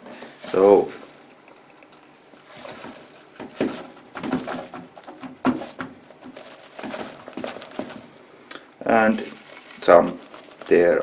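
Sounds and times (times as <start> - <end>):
detergent rustling and clattering: 0.0 - 8.2, 8.9 - 11.0.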